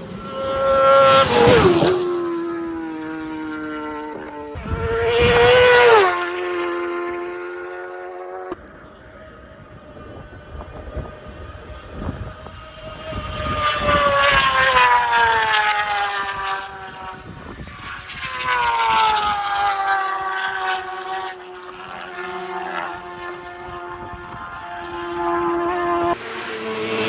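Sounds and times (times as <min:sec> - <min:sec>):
racing motorcycles passing at speed: 0:00.0 - 0:27.0.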